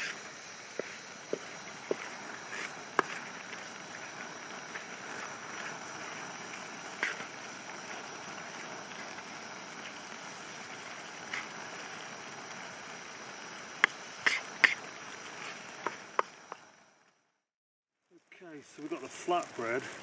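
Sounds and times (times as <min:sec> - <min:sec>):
meat sizzling in a pan: 0:00.0 - 0:16.8, 0:18.2 - 0:20.0.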